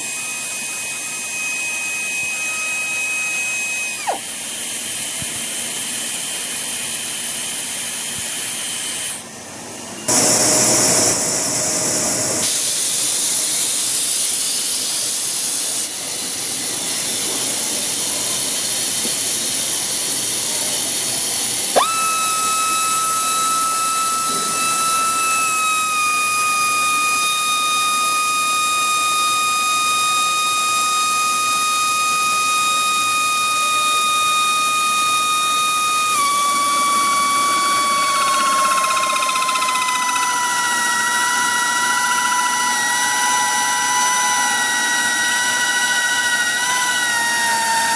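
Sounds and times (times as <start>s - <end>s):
air drill whistling whine: 0.0s - 47.9s.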